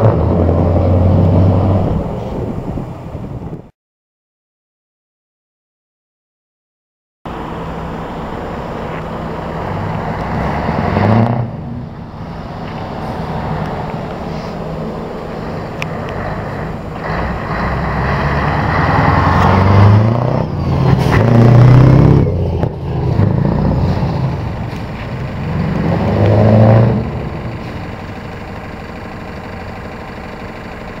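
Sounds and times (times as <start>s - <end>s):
truck engine revving through gears: 0.0s - 2.6s, 7.3s - 31.0s.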